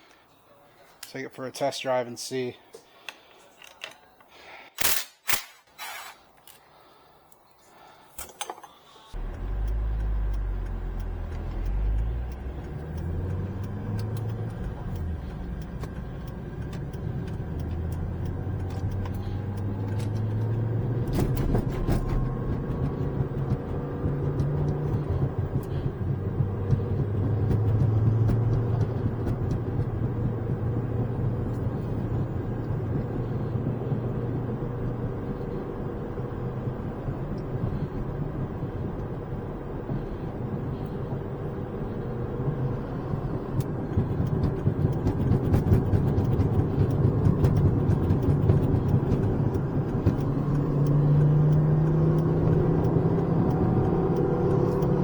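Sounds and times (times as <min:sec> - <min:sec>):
road noise: 0:05.8 - 0:55.0
turbocharged car engine: 0:09.1 - 0:55.0.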